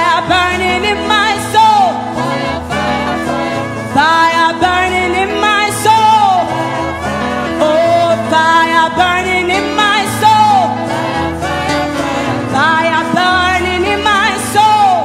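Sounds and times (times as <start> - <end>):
band playing: 0.0 - 15.0
voices singing gospel: 0.0 - 15.0.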